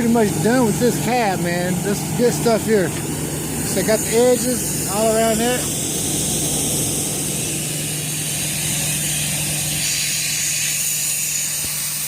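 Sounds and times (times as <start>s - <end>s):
engine humming: 0.0s - 9.9s
air hissing: 0.0s - 12.0s.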